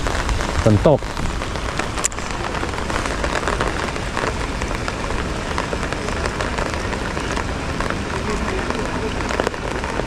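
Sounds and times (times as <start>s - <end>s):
rain patter: 0.0s - 10.0s.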